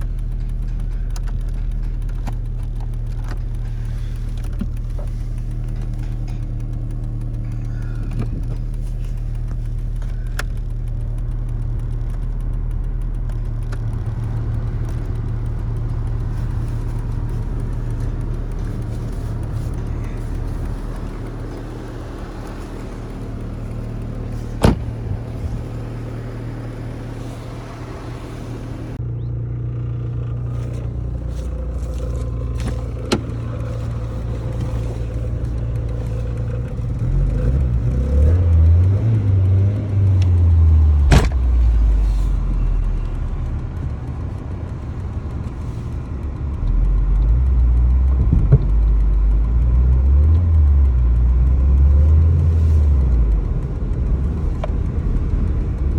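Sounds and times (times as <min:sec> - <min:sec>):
sharp clicks: 0:00.0 - 0:29.0, 0:30.4 - 0:55.9
car engine idling roughly: 0:00.0 - 0:55.9.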